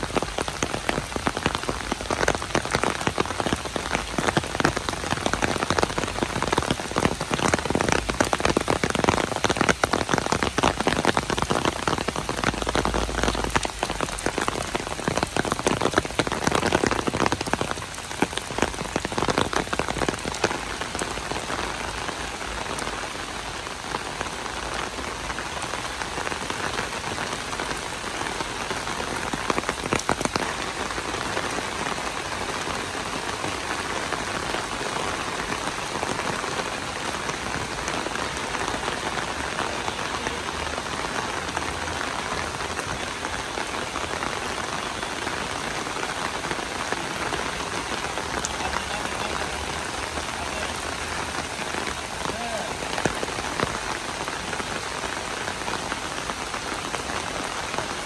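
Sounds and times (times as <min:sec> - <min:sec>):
sharp raindrop hits: 0:00.0 - 0:58.0
steady rain falling: 0:00.0 - 0:58.0.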